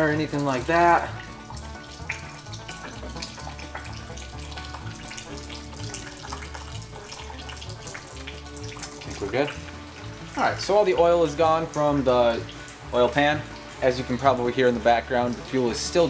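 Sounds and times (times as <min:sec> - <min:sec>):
background music with beat: 0:00.0 - 0:16.0
liquid trickling into container: 0:00.0 - 0:16.0.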